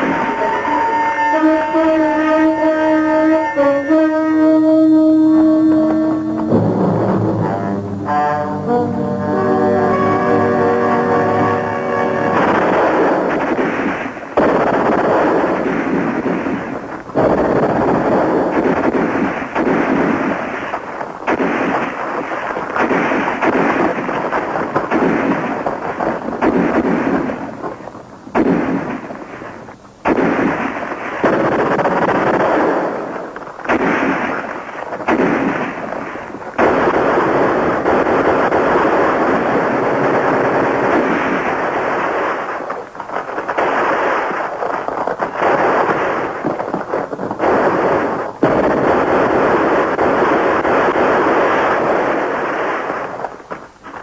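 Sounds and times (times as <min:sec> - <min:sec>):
explosions: 0:00.0 - 0:02.3, 0:04.5 - 0:54.0
rifle and machine-gun fire: 0:10.3 - 0:53.6.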